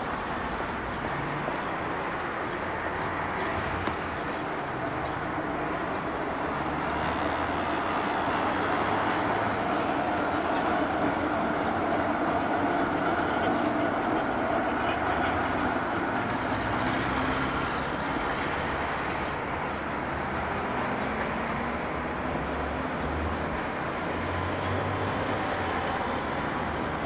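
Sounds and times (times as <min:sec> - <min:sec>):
tram wheels rumbling on rail: 0:00.0 - 0:27.0.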